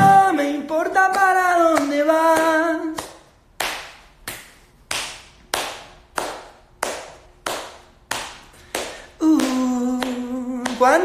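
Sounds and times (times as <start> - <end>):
person clapping hands: 1.1 - 11.0.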